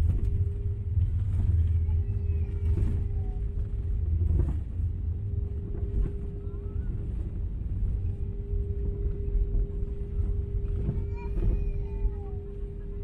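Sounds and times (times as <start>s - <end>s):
aircraft cabin rumble on runway: 0.0s - 13.0s
constant hum: 0.0s - 13.0s.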